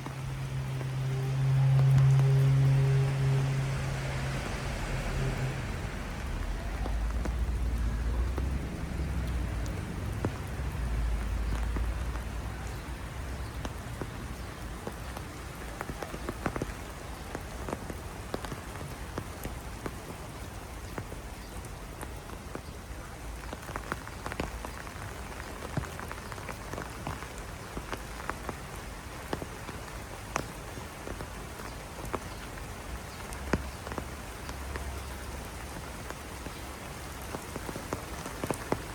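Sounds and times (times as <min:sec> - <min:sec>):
heavy rain: 0:00.0 - 0:38.9
raindrops pattering on hard surfaces: 0:00.0 - 0:38.9.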